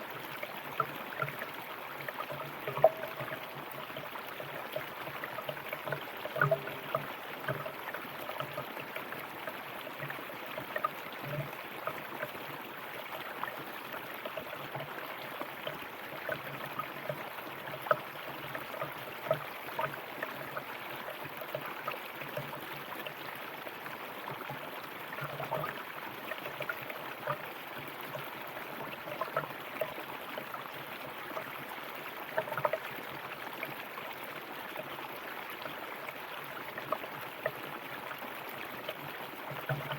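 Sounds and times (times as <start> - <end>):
river water flowing over rocks: 0.0 - 39.9
water splashes: 0.0 - 39.9.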